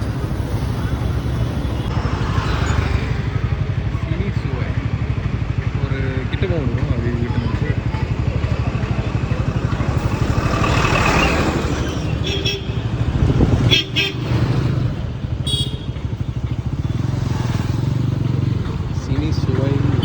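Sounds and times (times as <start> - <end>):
motorcycle engine running: 0.0 - 20.0
road and wind noise: 0.0 - 20.0.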